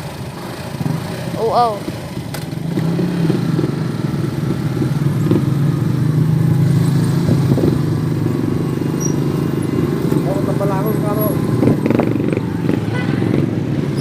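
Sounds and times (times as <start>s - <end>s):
road noise: 0.0s - 14.0s
vehicle engine running: 0.0s - 14.0s.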